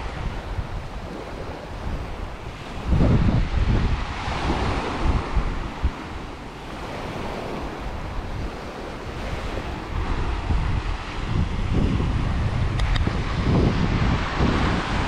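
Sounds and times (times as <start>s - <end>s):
small waves on sandy beach: 0.0s - 15.0s
wind buffeting microphone: 0.0s - 15.0s.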